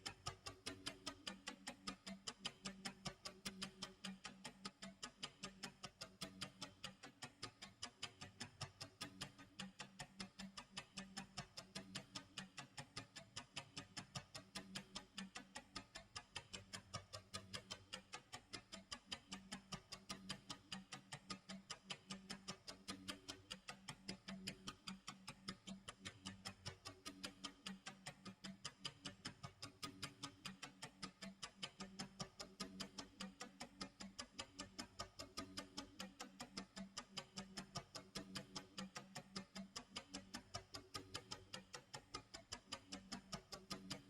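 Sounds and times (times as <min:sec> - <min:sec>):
clock ticking: 0:00.0 - 0:44.0.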